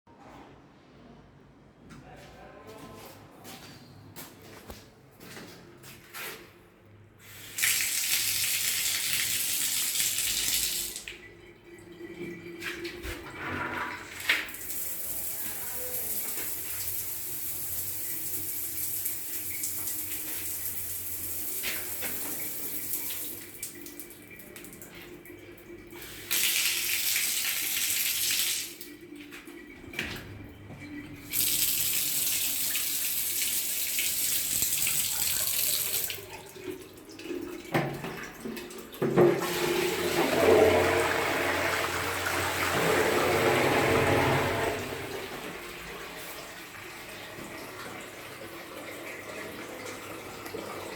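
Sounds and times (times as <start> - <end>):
water running from a tap: 7.2 - 50.9.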